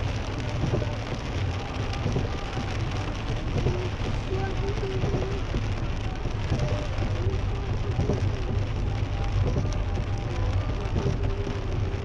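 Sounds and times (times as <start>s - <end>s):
car driving on a wet road: 0.0s - 12.0s
rain on a car roof: 0.0s - 12.0s.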